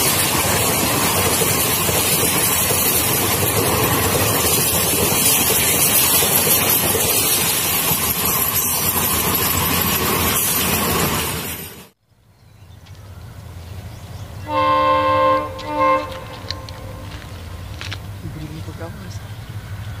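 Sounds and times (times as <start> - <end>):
train coaches rushing past: 0.0 - 12.0, 13.4 - 20.0.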